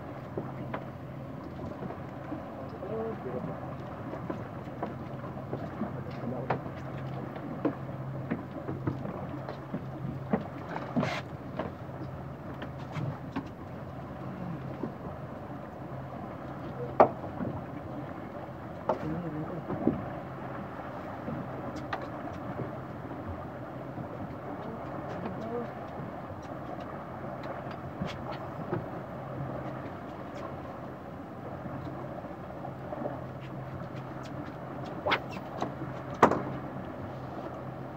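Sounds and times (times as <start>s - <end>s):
steady low hum: 0.0s - 37.9s
water slapping against hull: 0.0s - 37.9s.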